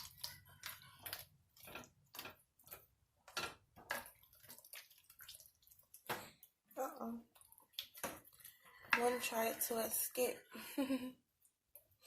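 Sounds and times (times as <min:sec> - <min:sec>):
utensil stirring sticky food: 0:00.0 - 0:10.5.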